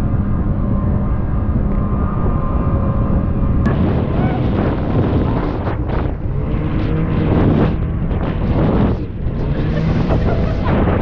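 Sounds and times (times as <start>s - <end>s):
small boat engine running: 0.0s - 11.0s
wind buffeting microphone: 0.0s - 11.0s.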